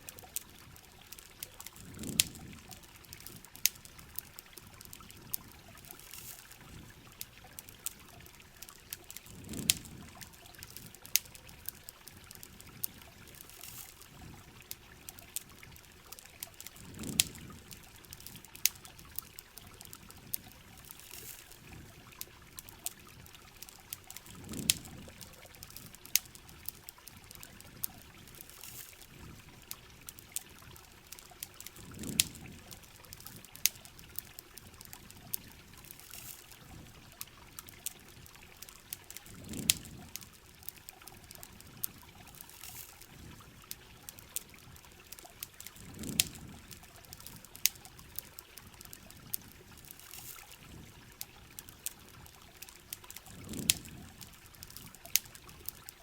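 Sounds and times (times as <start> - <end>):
campfire crackling: 0.0 - 56.0
rain: 0.0 - 56.0
trickling water: 0.0 - 56.0.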